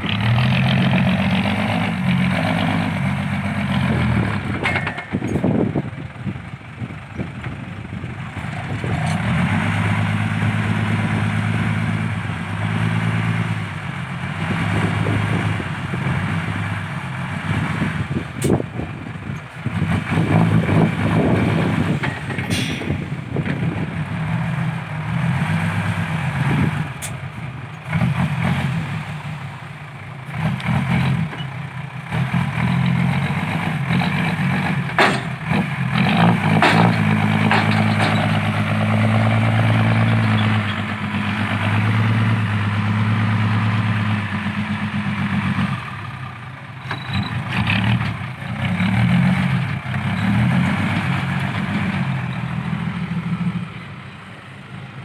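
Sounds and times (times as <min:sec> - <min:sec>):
diesel truck engine under load: 0:00.0 - 0:55.0.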